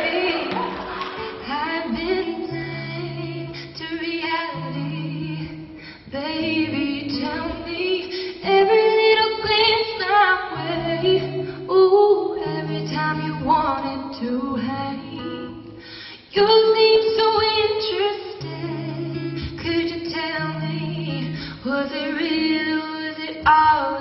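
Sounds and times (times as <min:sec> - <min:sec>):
acoustic guitar: 0:00.0 - 0:24.0
woman singing: 0:00.0 - 0:24.0.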